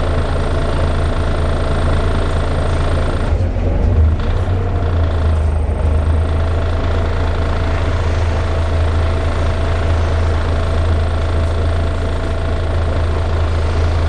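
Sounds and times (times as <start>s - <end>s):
bus diesel engine running: 0.0s - 14.0s
constant high whine: 0.0s - 14.0s.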